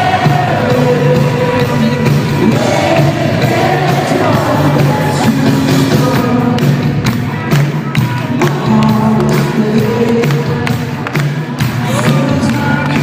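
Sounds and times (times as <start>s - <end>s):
crowd in a hall: 0.0s - 13.0s
live band playing: 0.0s - 13.0s
person singing: 0.0s - 13.0s.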